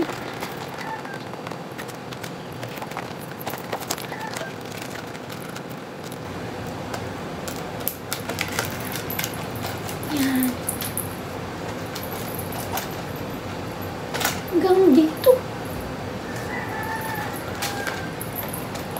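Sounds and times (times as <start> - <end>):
metal chain strap clinking: 0.0 - 6.2, 7.4 - 18.9.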